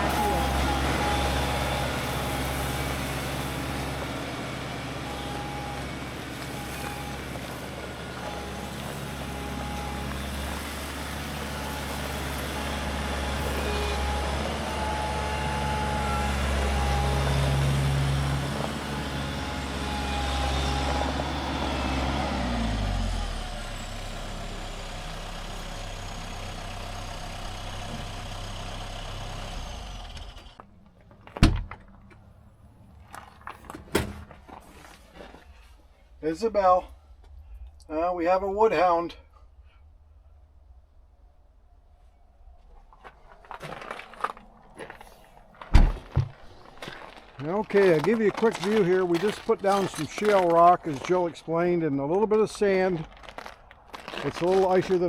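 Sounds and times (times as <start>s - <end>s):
tractor engine running: 0.0s - 35.0s, 43.0s - 55.0s.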